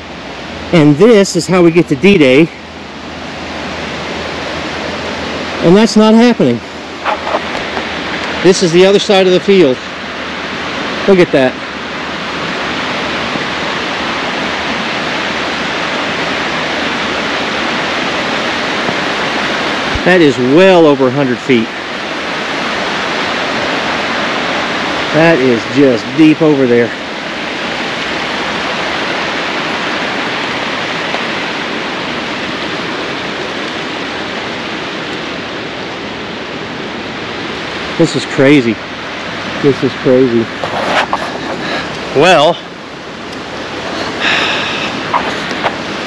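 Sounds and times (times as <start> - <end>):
fast-flowing floodwater rushing: 0.0 - 46.0.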